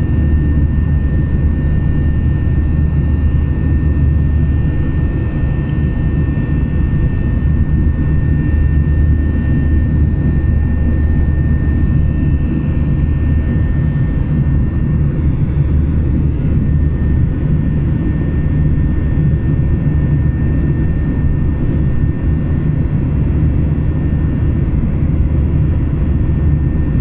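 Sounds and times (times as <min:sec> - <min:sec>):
drone of engine and airflow: 0:00.0 - 0:27.0.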